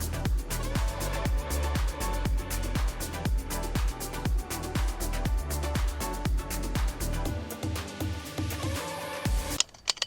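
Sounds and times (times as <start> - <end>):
electronic dance music: 0.0 - 9.6
kick drum beat: 0.0 - 9.6
ticking hi-hats: 0.0 - 9.6.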